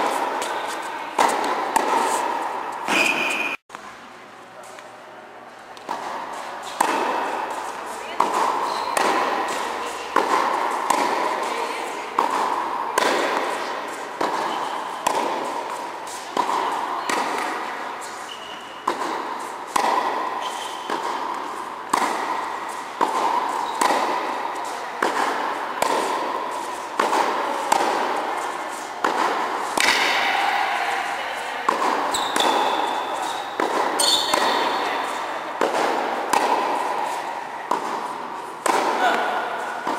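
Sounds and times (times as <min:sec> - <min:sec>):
tennis ball struck by rackets: 0:00.0 - 0:03.6, 0:05.8 - 0:17.9, 0:18.6 - 0:39.9.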